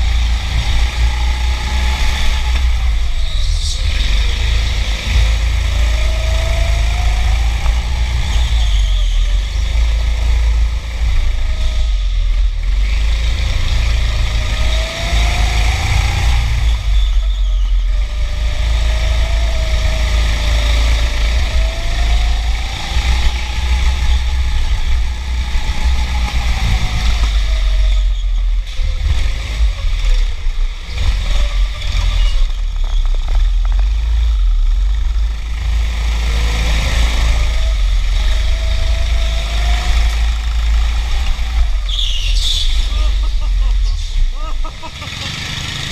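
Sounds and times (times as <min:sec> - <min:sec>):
go-kart motor revving: 0:00.0 - 0:45.9
heavy low rumble: 0:00.0 - 0:45.9.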